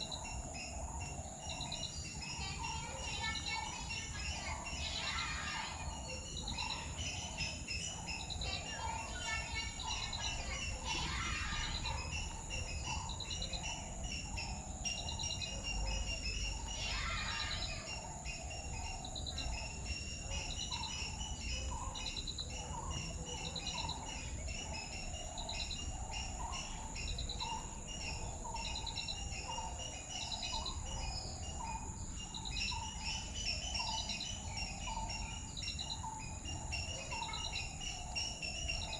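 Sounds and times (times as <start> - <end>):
bird trill: 0.0 - 38.9
birds chirping: 0.0 - 38.9.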